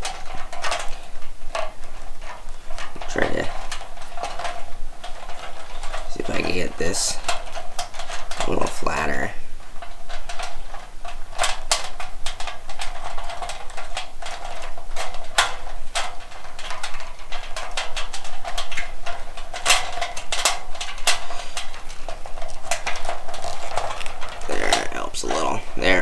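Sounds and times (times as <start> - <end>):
wires rattling against sheet metal: 0.0 - 26.0.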